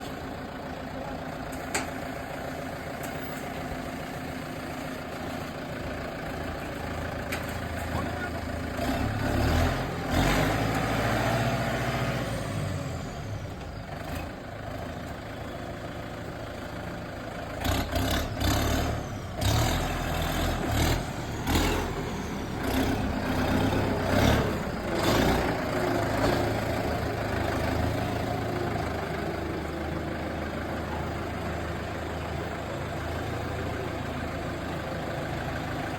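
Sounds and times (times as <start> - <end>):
tractor diesel engine idling and revving: 0.0 - 35.9.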